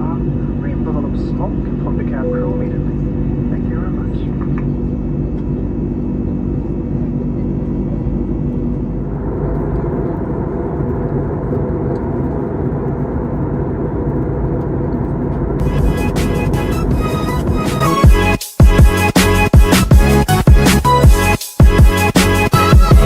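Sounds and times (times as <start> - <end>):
airliner cabin engine noise: 0.0 - 18.9.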